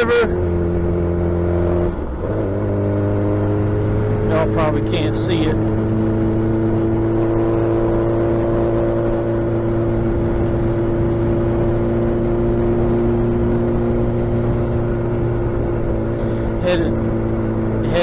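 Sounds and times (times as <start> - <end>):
motorcycle engine cruising: 0.0 - 18.0
wind and road noise: 0.0 - 18.0.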